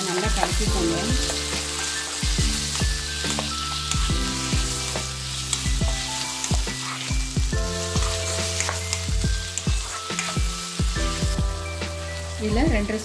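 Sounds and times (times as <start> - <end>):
spatula ticking and scraping wok: 0.0 - 12.6
vegetables sizzling in oil: 0.0 - 13.0
background music with low beat: 0.2 - 13.0.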